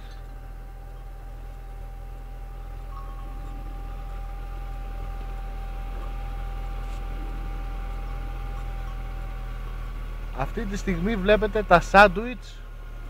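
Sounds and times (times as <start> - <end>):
engine humming at idle: 0.0 - 13.0
thin steady whine: 0.0 - 13.0.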